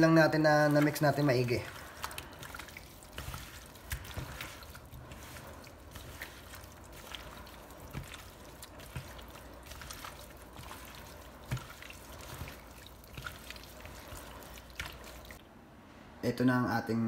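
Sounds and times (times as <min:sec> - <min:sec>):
chicken squelching in marinade: 0:00.0 - 0:15.4
small wet clicks: 0:00.7 - 0:15.4.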